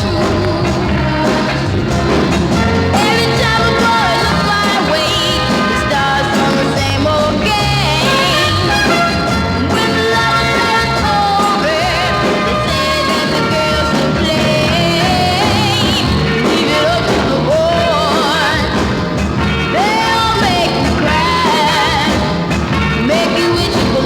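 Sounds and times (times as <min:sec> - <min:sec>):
soul record with singer and band: 0:00.0 - 0:24.0.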